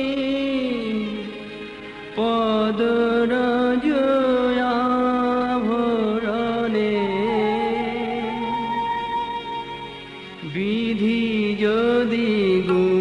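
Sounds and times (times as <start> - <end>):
man singing in held notes: 0.0 - 9.2, 10.4 - 13.0
musical accompaniment: 0.0 - 13.0.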